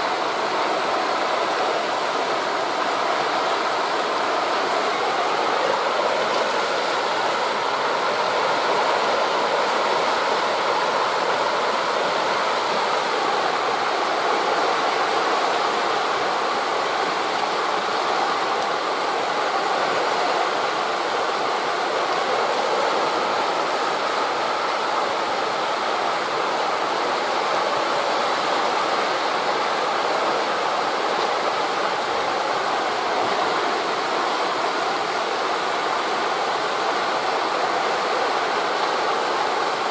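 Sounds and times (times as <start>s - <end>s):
waves on beach: 0.0s - 39.9s
wind through tree leaves: 0.0s - 39.9s.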